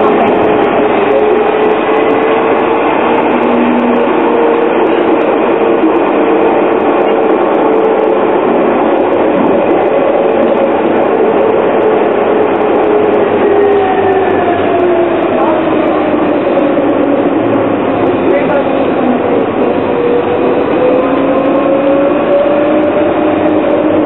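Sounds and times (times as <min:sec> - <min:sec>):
tram wheels rumbling on rail: 0:00.0 - 0:24.0.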